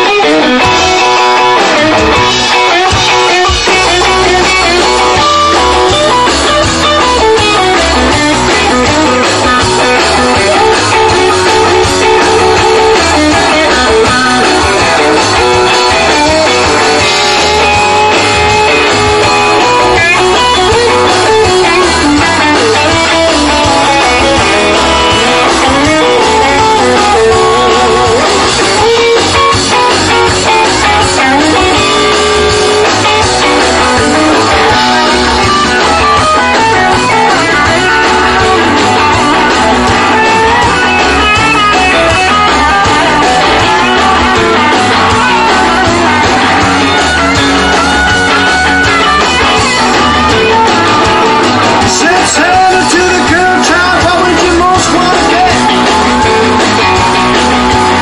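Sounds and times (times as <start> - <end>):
lead electric guitar melody: 0.0 - 58.0
rock and roll band playing: 0.0 - 58.0.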